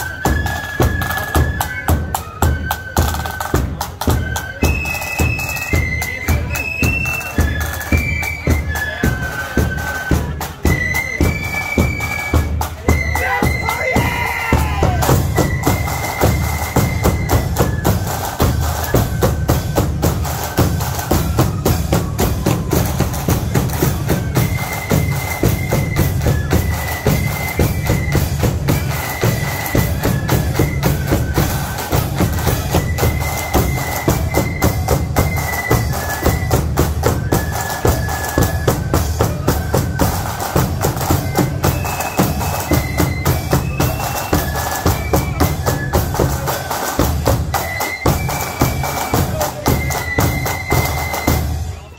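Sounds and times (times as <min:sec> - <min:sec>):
shrill flutes: 0:00.0 - 0:51.9
snare drums: 0:00.0 - 0:51.9.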